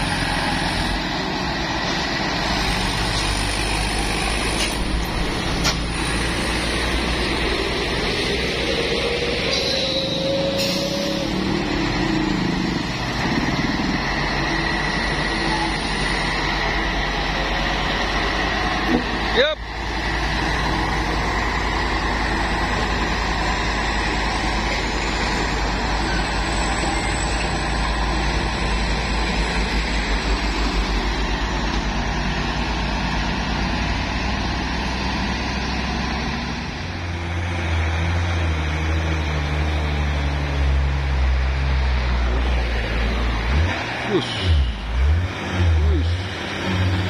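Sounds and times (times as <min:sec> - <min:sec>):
low truck engine drone: 0:00.0 - 0:47.0
truck engine pulling away: 0:00.0 - 0:47.0.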